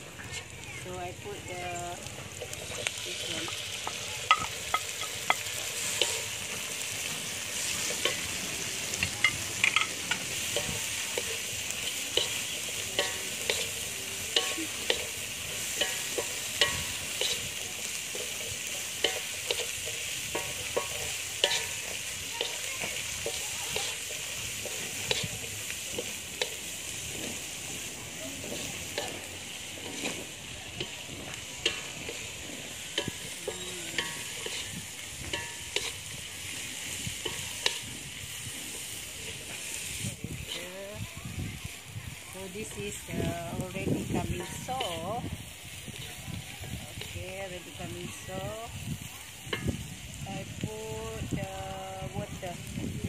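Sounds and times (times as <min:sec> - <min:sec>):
wooden spatula scraping wok: 0:00.0 - 0:41.0, 0:41.7 - 0:48.3
vegetables sizzling in oil: 0:00.0 - 0:53.0.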